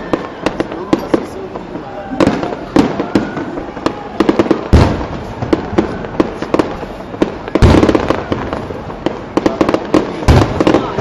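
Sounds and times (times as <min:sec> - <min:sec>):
fireworks bursts and crackle: 0:00.0 - 0:11.0
heavy firework booms: 0:00.0 - 0:11.0.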